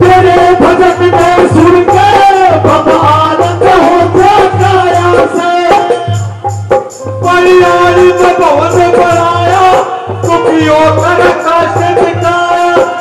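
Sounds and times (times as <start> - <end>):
hand drum beat: 0.0 - 13.0
harmonium melody: 0.0 - 13.0.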